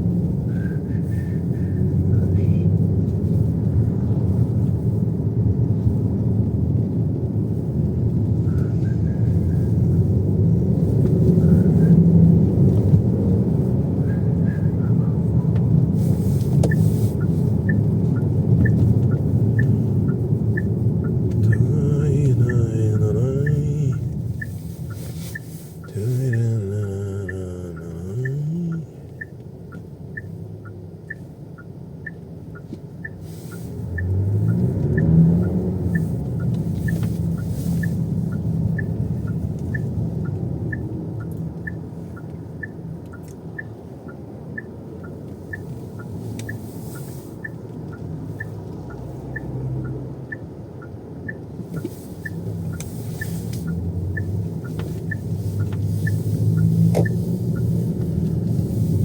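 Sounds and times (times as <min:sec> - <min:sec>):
car engine: 0:00.0 - 0:59.0
road rumble: 0:00.0 - 0:59.0
turn signal ticking: 0:00.0 - 0:59.0.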